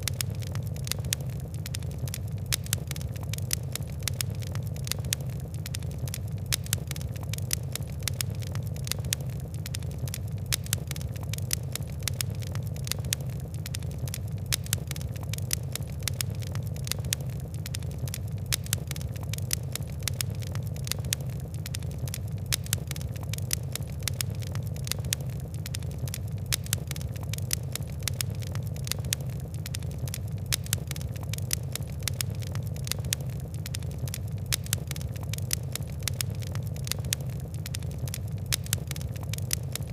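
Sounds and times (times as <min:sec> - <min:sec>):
fire crackling and popping: 0:00.0 - 0:39.9
low rumble of burning: 0:00.0 - 0:39.9.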